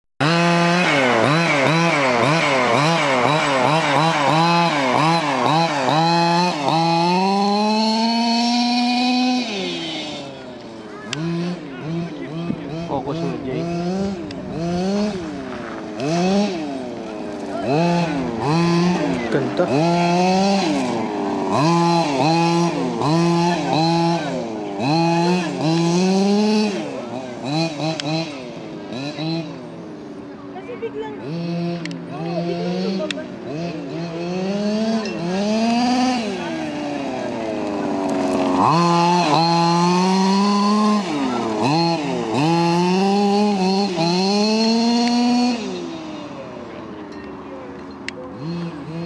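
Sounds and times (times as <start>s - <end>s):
two-stroke engine revving: 0.2s - 49.0s.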